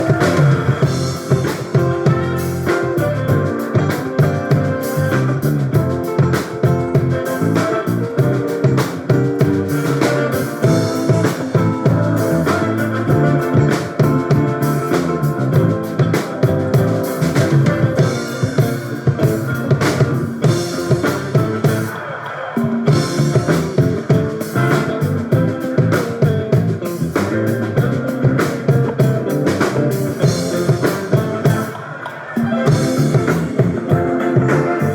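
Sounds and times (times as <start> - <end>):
drum kit beat: 0.0 - 34.9
electric guitar: 0.0 - 34.9.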